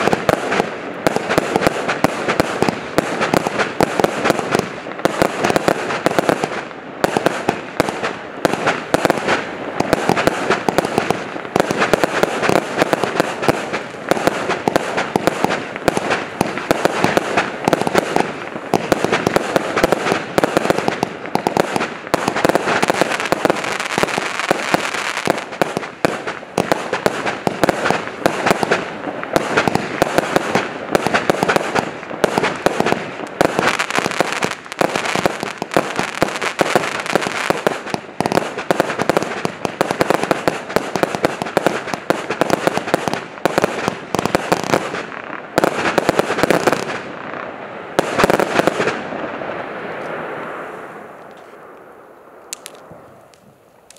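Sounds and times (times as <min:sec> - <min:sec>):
fireworks firing and bursting: 0:00.0 - 0:53.9.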